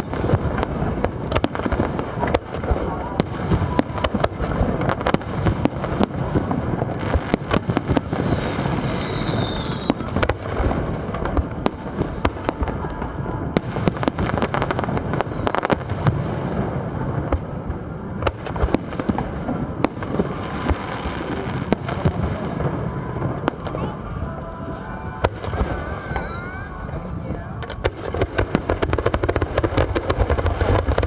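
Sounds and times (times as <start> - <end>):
falling firework hiss: 0.0 - 31.0
fireworks bangs and crackling: 0.0 - 31.0.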